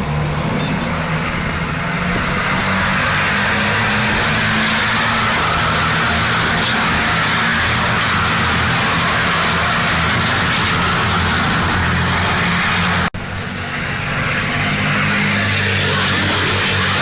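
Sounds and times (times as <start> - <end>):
truck diesel engines running hard: 0.0 - 17.0.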